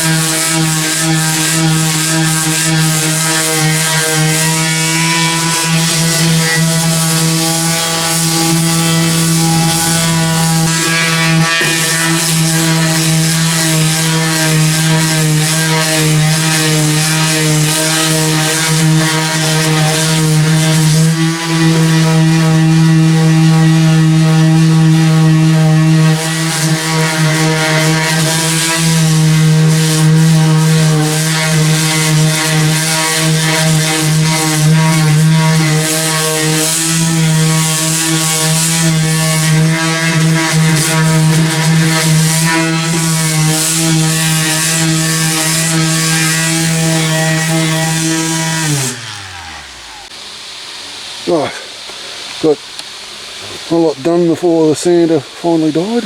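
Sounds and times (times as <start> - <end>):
electric sander running: 0.0 - 50.6.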